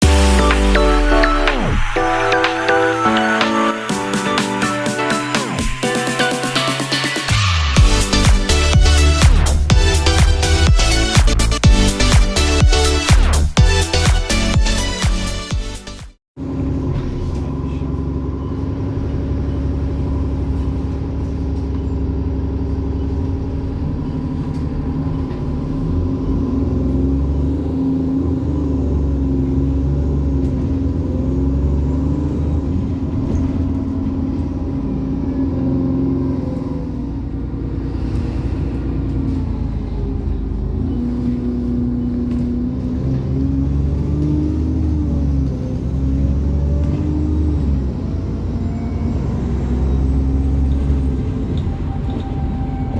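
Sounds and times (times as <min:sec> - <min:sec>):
bus diesel engine running: 0:00.0 - 0:52.9.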